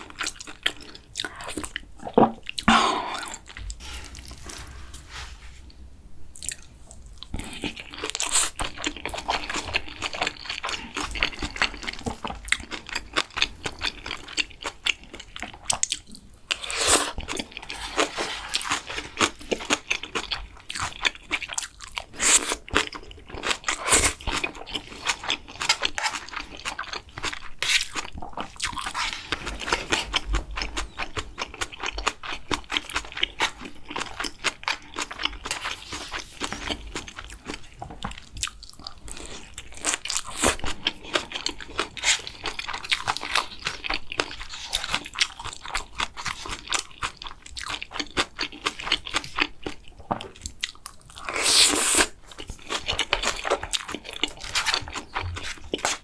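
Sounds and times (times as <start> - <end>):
chewing and crunching food: 0.0 - 5.0, 6.4 - 56.0.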